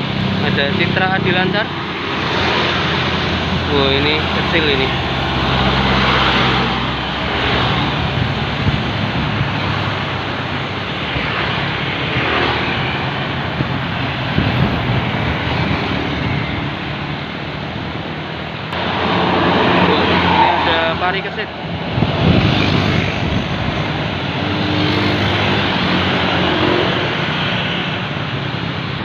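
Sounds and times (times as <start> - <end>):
tyre and road noise: 0.0 - 29.0
vehicle engines: 0.0 - 29.0.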